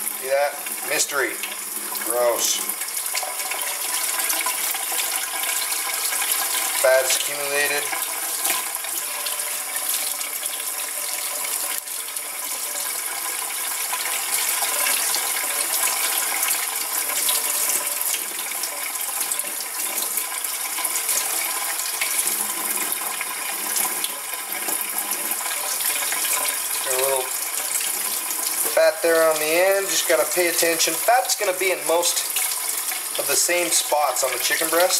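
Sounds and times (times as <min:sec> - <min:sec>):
faucet running into metal sink: 0:00.0 - 0:34.9.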